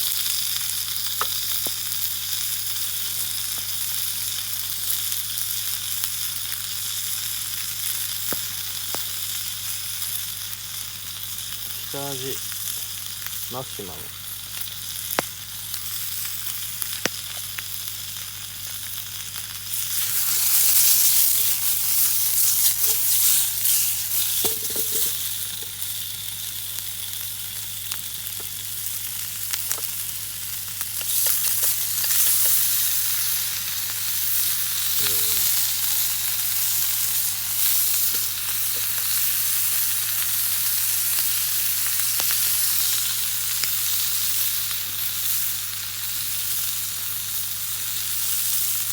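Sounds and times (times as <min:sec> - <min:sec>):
bacon sizzling in frying pan: 0:00.0 - 0:48.9.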